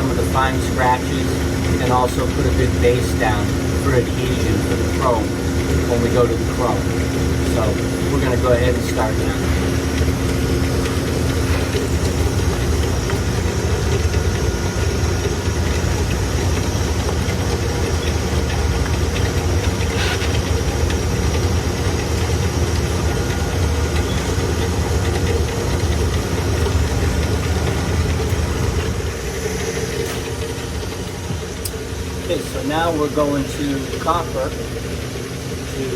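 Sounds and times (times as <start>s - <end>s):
low machinery hum: 0.0s - 35.9s.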